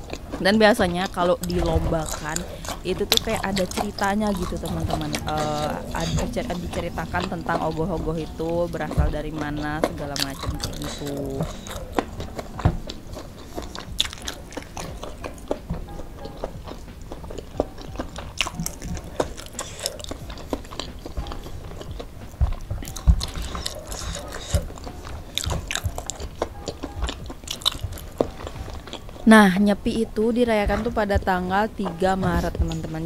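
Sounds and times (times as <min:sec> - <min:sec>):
chewing with wet mouth clicks: 0:00.0 - 0:33.0.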